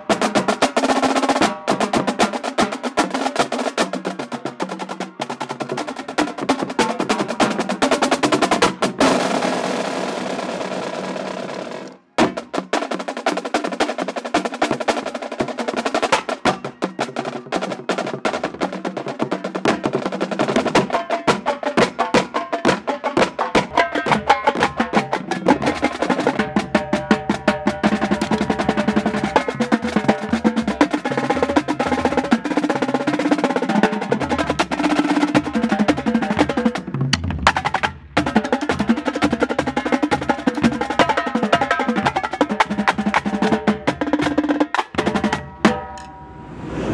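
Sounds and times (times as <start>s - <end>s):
marching drumline playing: 0.0s - 46.1s.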